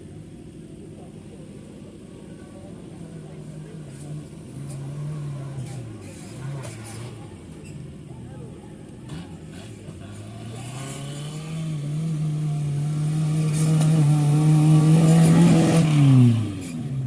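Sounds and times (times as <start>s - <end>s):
off-road vehicle engine revving: 2.8s - 17.0s.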